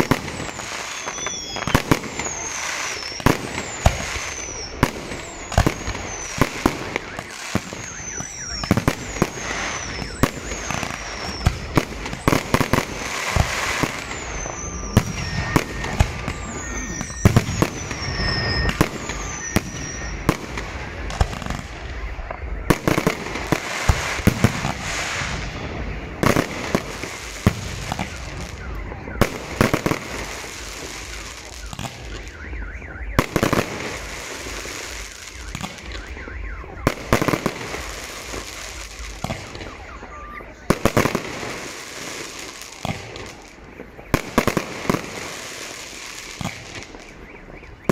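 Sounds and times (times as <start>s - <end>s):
dense firework crackling: 0.0s - 47.9s
falling firework whistles: 0.0s - 47.9s.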